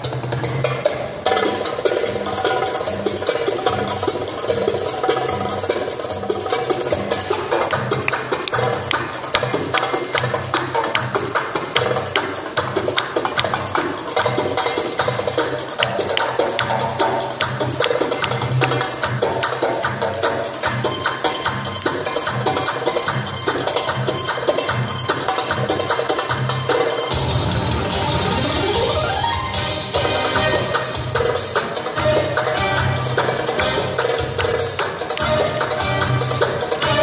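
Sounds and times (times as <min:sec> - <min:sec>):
belly-dance music: 0:00.0 - 0:37.0
fast dense percussion: 0:00.0 - 0:37.0.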